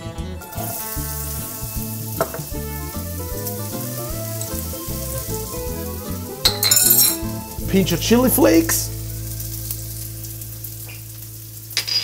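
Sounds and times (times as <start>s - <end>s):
background music: 0.0s - 12.0s
food sizzling in oil: 0.4s - 12.0s.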